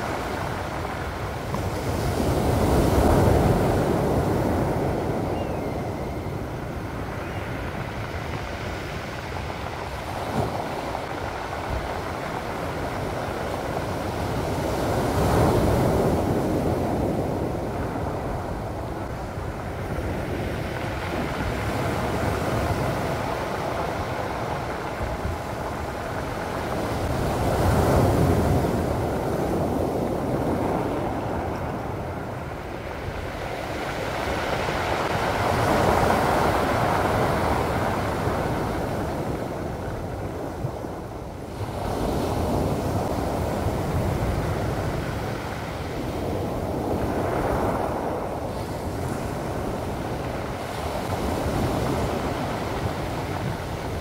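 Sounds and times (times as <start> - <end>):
waves breaking on pebble beach: 0.0 - 54.0.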